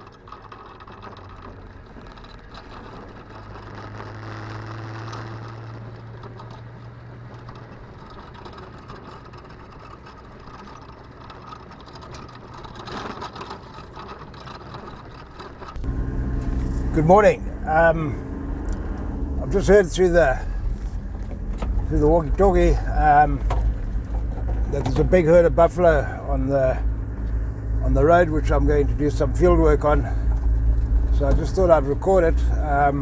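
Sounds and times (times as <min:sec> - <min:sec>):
light rattle: 0:00.0 - 0:33.0
vehicle engine running: 0:00.0 - 0:33.0.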